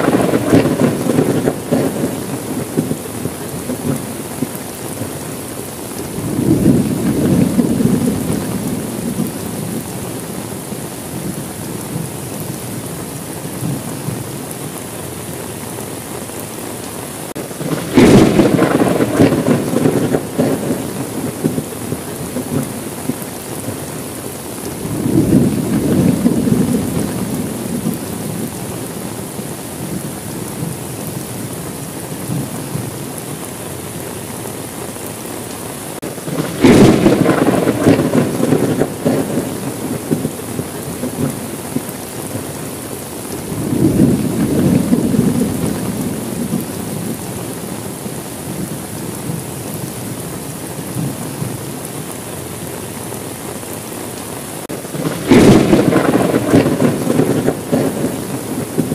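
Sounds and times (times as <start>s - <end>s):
thunder rolling: 0.0s - 15.4s, 17.3s - 33.0s, 36.0s - 51.8s, 54.7s - 58.9s
heavy rain: 0.0s - 58.9s.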